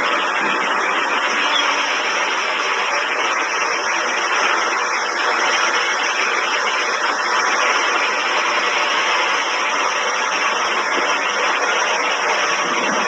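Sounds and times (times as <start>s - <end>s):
power line hissing: 0.0s - 13.0s.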